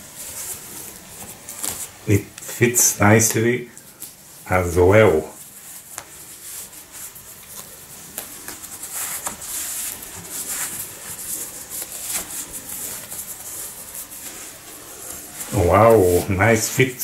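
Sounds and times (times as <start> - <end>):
fabric rustling and scraping: 0.0 - 17.0.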